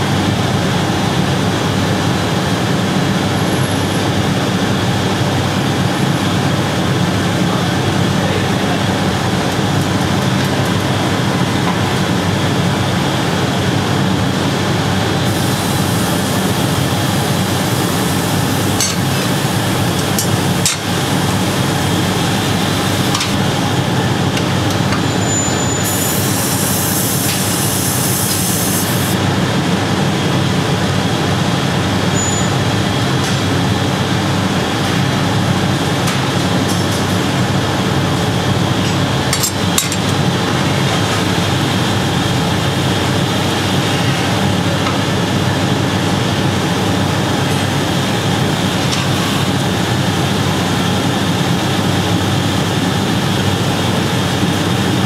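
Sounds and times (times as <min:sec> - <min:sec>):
gas furnaces and blowers roaring: 0:00.0 - 0:55.0.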